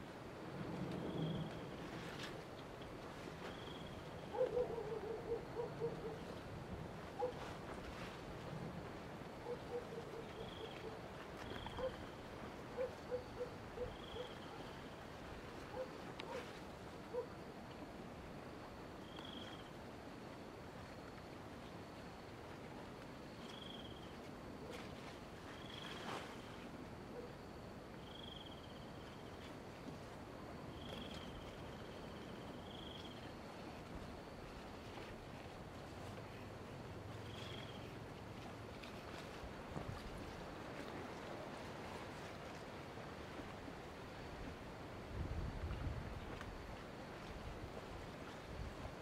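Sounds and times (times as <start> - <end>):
faint buzz of insects: 0.0 - 49.0
outdoor background noise: 0.0 - 49.0.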